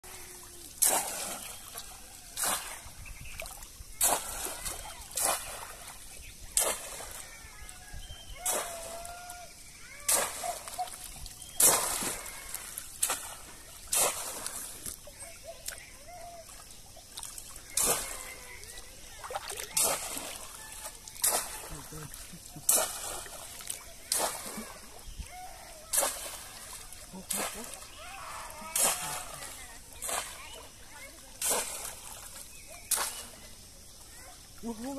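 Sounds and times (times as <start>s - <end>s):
water sloshing around wader: 0.0s - 34.9s
basket slapping into water: 0.1s - 7.4s, 8.4s - 16.2s, 17.2s - 33.4s.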